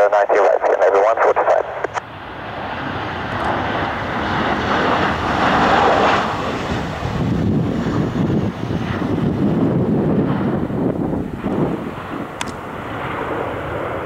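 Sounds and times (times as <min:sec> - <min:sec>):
jet airliner engine roar: 0:00.0 - 0:14.0.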